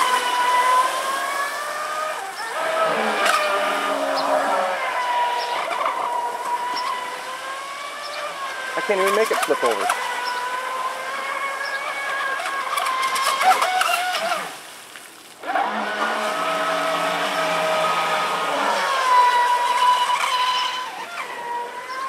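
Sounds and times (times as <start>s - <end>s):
electric motor whining: 0.0s - 14.6s, 15.4s - 22.0s.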